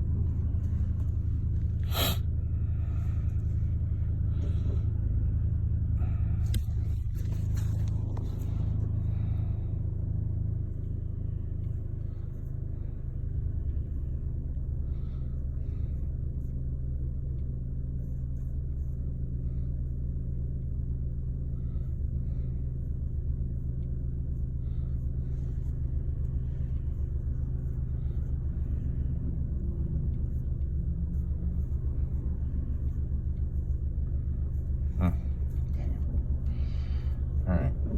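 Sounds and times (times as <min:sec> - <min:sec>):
car engine droning: 0:00.0 - 0:37.9.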